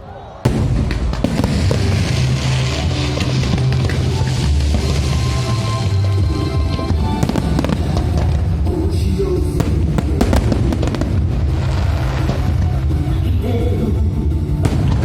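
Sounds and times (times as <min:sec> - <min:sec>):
fireworks bursting and crackling: 0:00.4 - 0:13.5, 0:14.6 - 0:15.0
loud music with heavy bass: 0:01.3 - 0:15.0.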